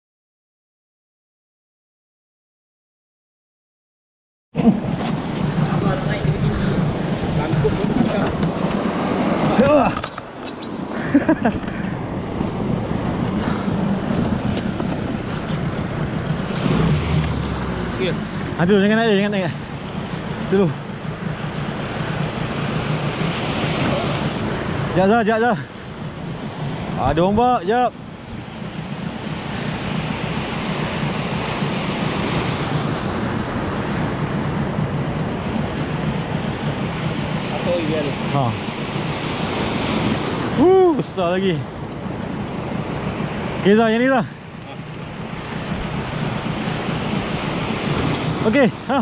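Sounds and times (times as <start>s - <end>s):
sea waves washing: 4.6s - 49.0s
wind buffeting microphone: 4.6s - 49.0s.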